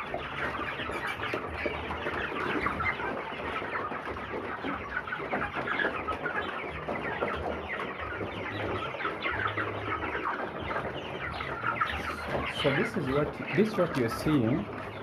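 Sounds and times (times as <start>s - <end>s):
chickens peeping and clucking: 0.0s - 15.0s.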